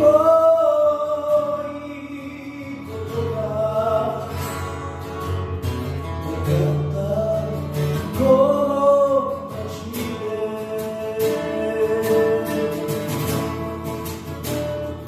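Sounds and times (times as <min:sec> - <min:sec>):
man singing a slow ballad: 0:00.0 - 0:05.4, 0:06.1 - 0:13.9
strummed acoustic guitar: 0:00.0 - 0:15.0.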